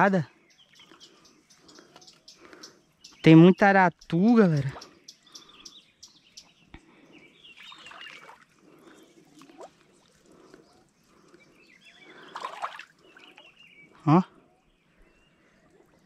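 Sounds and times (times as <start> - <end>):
bird chirps: 0.2 - 15.6.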